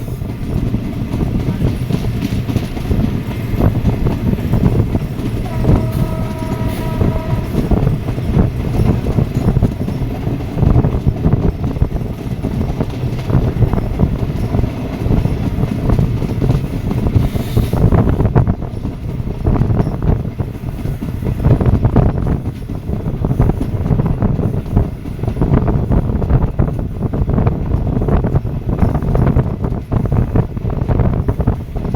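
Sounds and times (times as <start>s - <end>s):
train rumbling on rails: 0.0s - 31.9s
wheels clicking over track: 0.1s - 31.9s.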